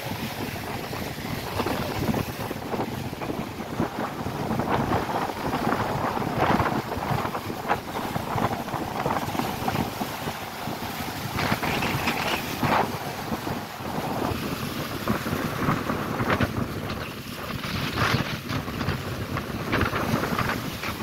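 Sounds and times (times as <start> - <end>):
waves splashing against rocks: 0.0 - 21.0
wind buffeting microphone: 0.0 - 21.0.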